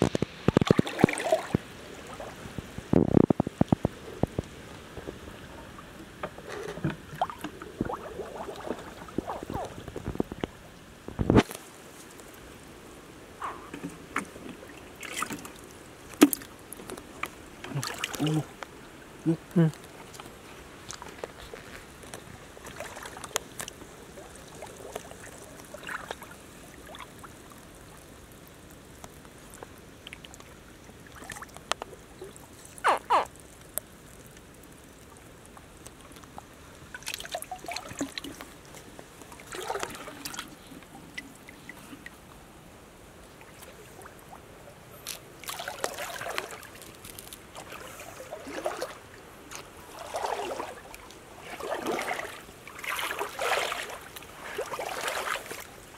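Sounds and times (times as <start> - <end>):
muddy water trickling: 0.0 - 55.9.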